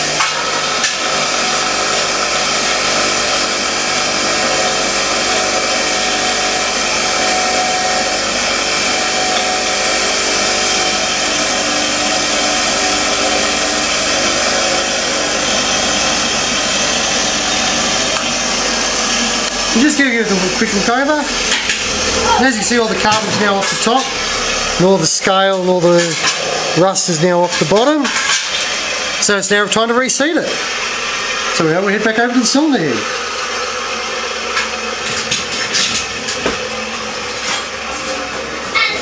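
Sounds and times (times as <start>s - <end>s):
bench grinder motor hum: 0.0s - 39.0s
wire wheel grinding metal: 0.0s - 39.0s.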